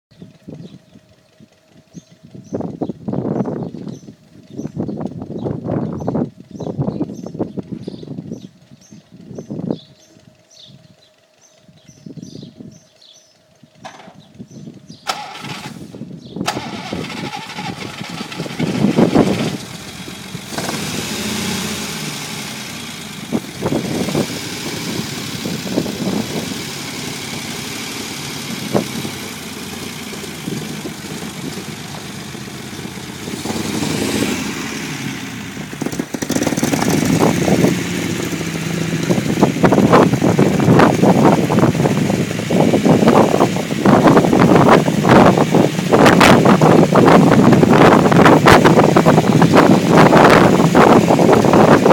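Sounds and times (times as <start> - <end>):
petrol engine starting and running: 0.1 - 51.9.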